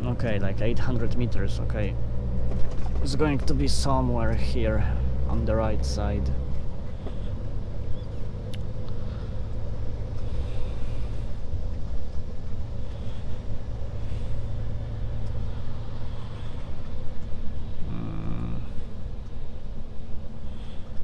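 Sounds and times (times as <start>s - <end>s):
diesel engine drone: 0.0s - 21.0s
road and tyre noise: 0.0s - 21.0s.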